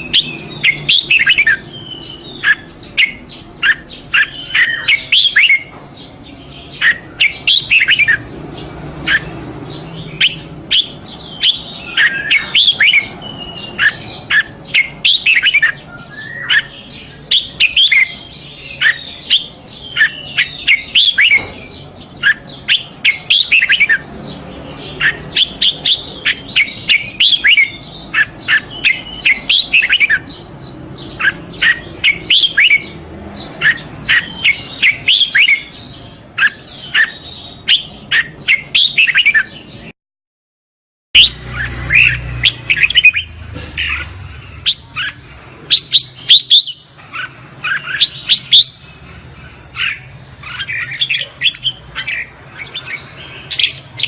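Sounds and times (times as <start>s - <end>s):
bird singing whistled notes: 0.0s - 8.4s, 9.0s - 24.1s, 24.8s - 39.9s, 41.2s - 48.9s.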